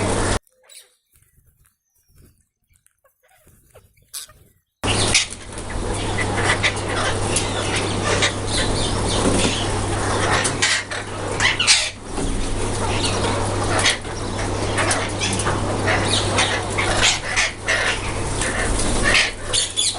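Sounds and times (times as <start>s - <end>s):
parrots flapping wings: 0.0s - 19.9s
parrots calling: 2.7s - 19.9s
steady low hum: 3.6s - 19.9s.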